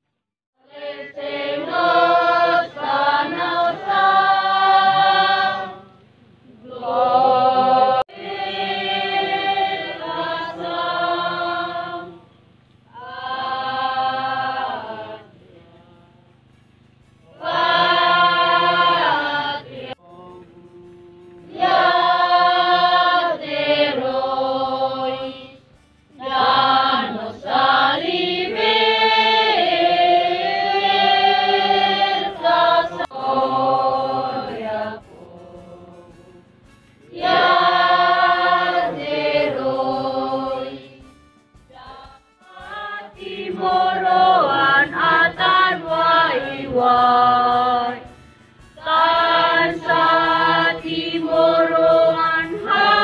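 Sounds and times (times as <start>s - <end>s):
female choir singing: 0.6s - 16.2s, 17.2s - 20.3s, 21.4s - 25.6s, 26.2s - 36.4s, 37.1s - 41.1s, 41.7s - 48.1s, 48.8s - 53.0s.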